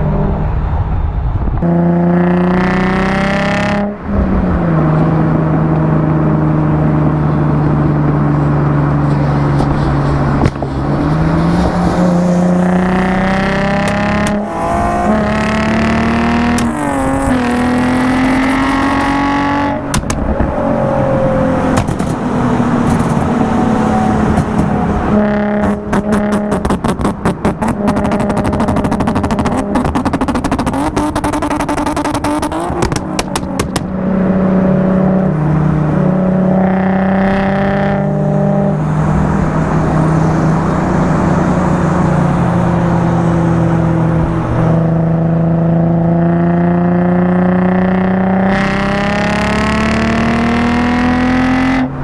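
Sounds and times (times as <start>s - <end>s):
sports car engine revving: 1.6s - 52.0s.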